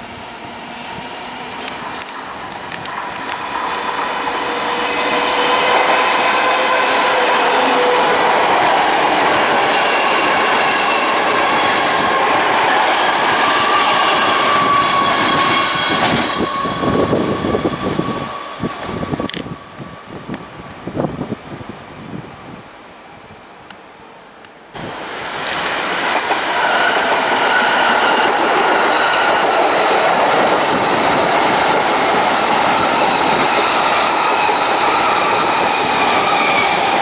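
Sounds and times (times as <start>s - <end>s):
train wheels rushing on rails: 0.0s - 21.3s, 24.8s - 37.0s.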